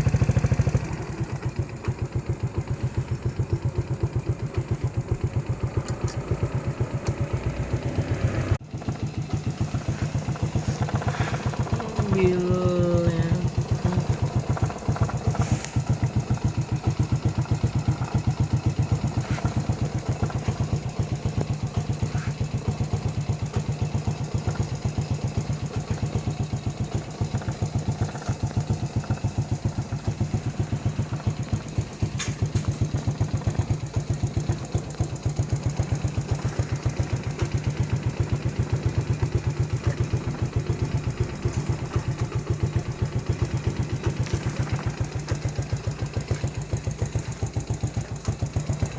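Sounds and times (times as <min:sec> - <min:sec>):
vehicle engine idling: 0:00.0 - 0:48.9.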